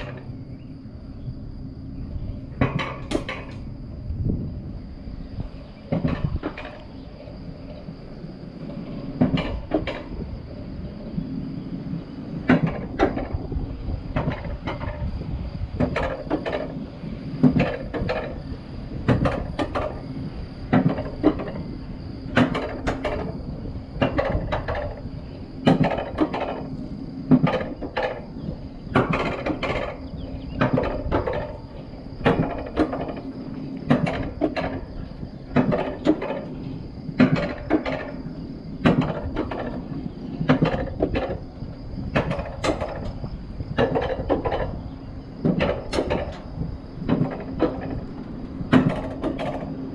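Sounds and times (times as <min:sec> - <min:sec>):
sled knocking and rattling on rails: 0:00.0 - 0:49.9
steady mechanical hum: 0:00.0 - 0:49.9.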